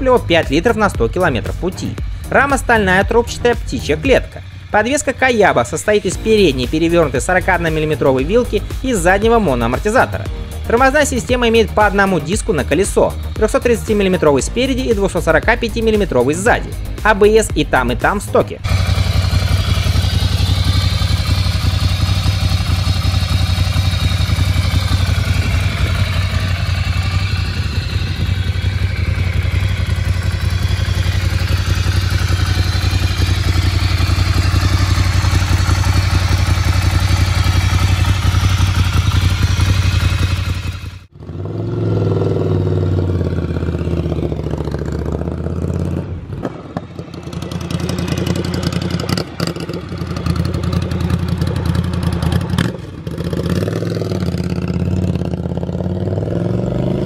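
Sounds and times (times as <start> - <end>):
motorcycle engine idling: 0.0 - 56.5.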